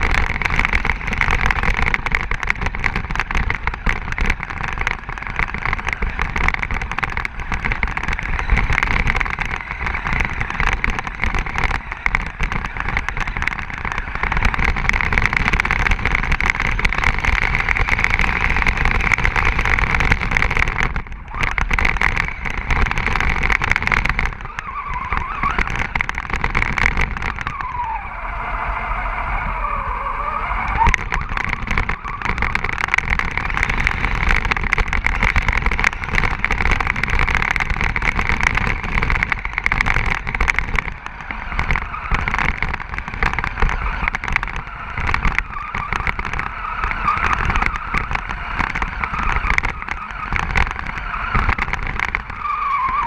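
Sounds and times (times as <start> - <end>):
tyres churning snow: 0.0 - 53.0.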